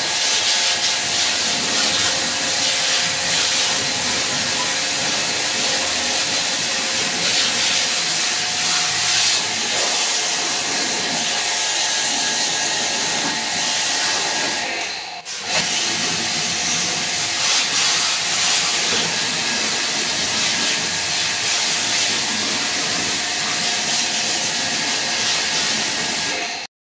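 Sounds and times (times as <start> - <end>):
pressure-washer water jet spraying: 0.0 - 26.7.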